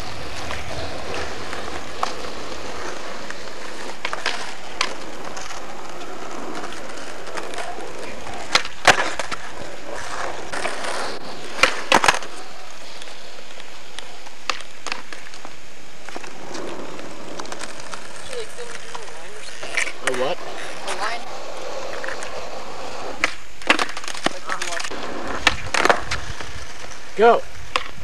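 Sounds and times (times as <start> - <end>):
skateboard clacks: 0.0 - 28.0
skateboard rolling on asphalt: 0.0 - 28.0.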